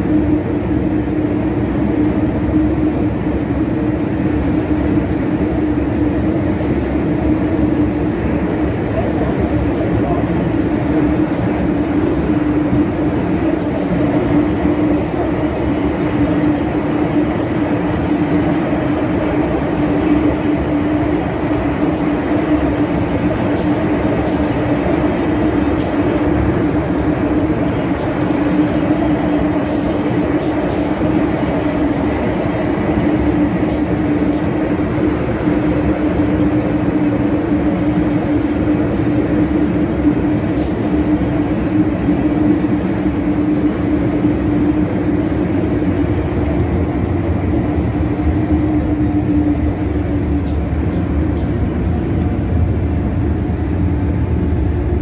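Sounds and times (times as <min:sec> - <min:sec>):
train rumbling through tunnel: 0:00.0 - 0:55.0.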